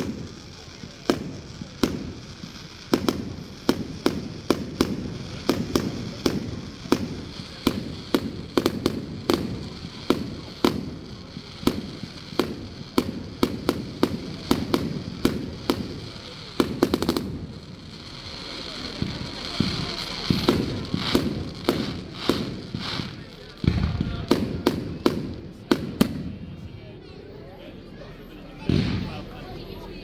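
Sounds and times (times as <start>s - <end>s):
fireworks bangs: 0.0s - 27.2s, 28.4s - 30.0s.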